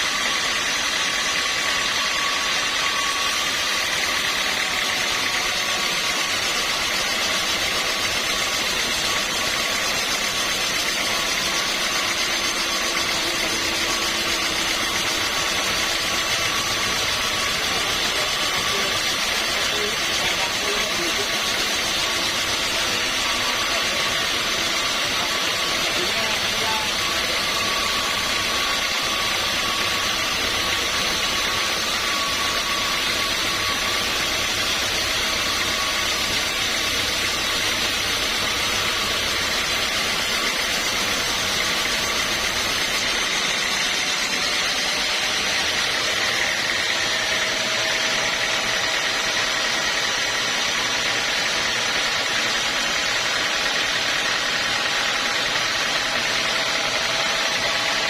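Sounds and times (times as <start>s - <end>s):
sawmill machinery hum: 0.0s - 58.0s
whining tones: 0.0s - 58.0s.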